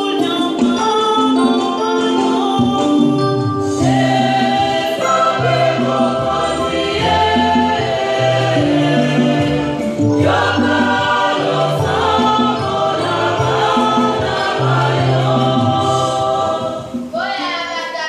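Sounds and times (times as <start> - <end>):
choir singing a hymn: 2.3 - 18.0.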